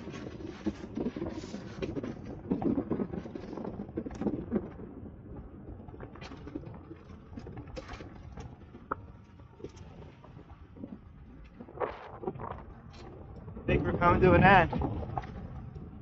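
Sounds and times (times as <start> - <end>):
bicycle tyre rumble on concrete: 0.0 - 16.0.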